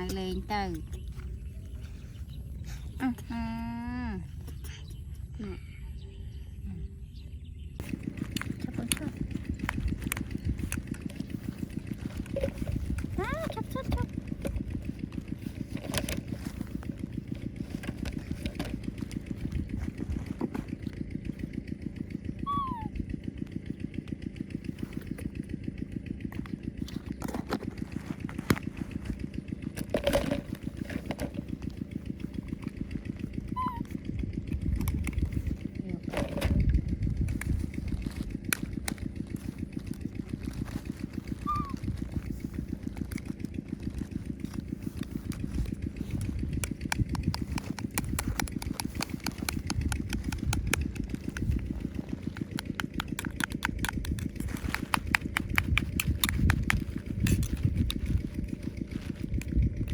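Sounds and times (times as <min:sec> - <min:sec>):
small engine idling: 0:00.0 - 0:59.9
sharp clicks and rattles: 0:07.8 - 0:59.9.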